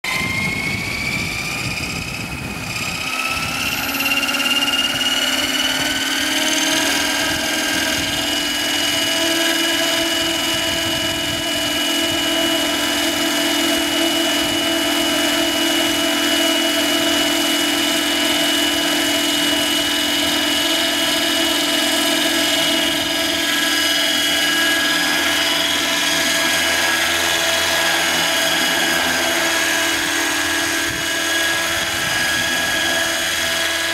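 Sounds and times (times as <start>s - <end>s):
model helicopter rotor whine: 0.0s - 33.9s.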